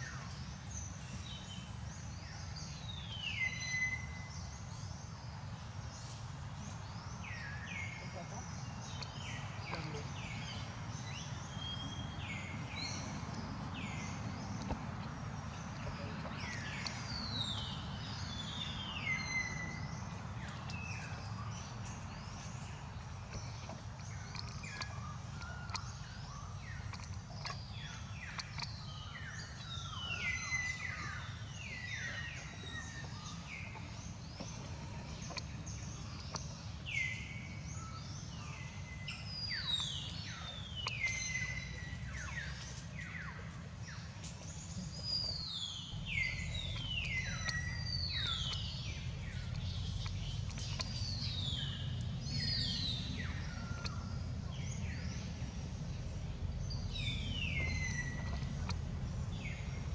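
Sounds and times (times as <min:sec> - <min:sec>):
low outdoor rumble: 0:00.0 - 0:59.9.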